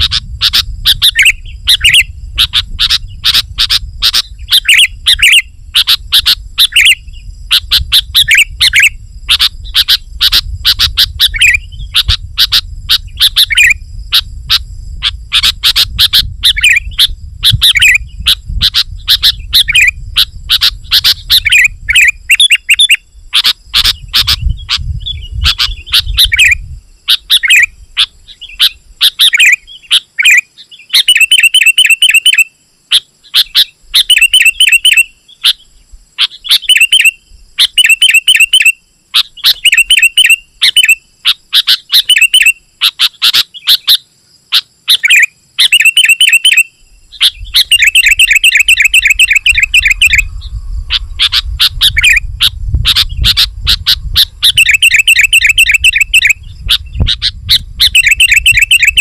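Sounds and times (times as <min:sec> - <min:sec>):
bird singing chattering phrases: 0:00.0 - 0:59.0.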